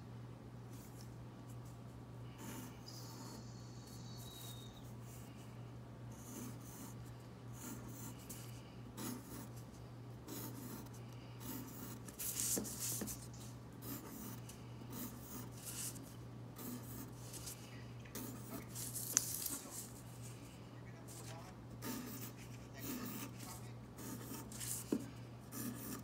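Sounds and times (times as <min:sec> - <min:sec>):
steady low hum: 0:00.0 - 0:26.0
pencil scratching on paper: 0:02.4 - 0:05.4, 0:06.1 - 0:09.6, 0:10.2 - 0:20.4, 0:21.1 - 0:26.0.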